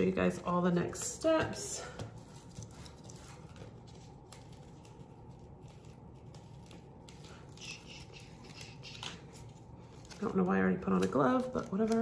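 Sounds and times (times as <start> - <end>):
low room hum: 0.0 - 12.0
paper rustling and crackling: 0.0 - 12.0.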